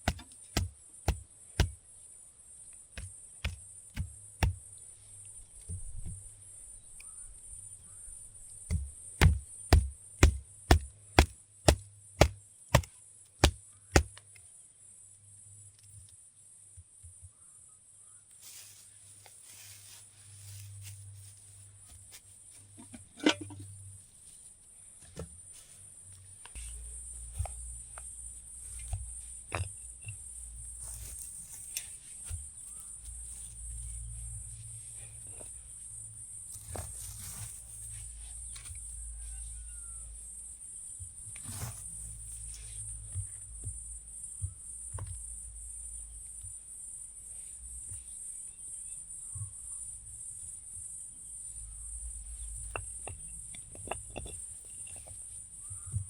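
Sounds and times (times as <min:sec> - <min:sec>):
insects chirping chorus: 0:00.0 - 0:56.0.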